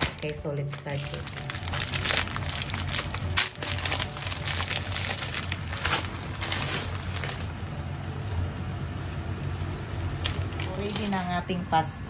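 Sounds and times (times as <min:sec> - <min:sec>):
plastic packaging crinkling: 0:00.0 - 0:11.5
low steady hum: 0:00.0 - 0:12.0.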